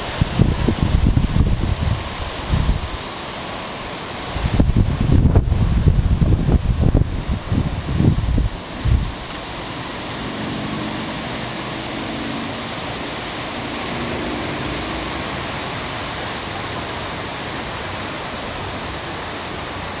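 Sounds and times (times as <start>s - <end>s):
wind buffeting microphone: 0.0s - 3.1s, 4.2s - 17.2s
wind rushing through leaves: 0.0s - 20.0s.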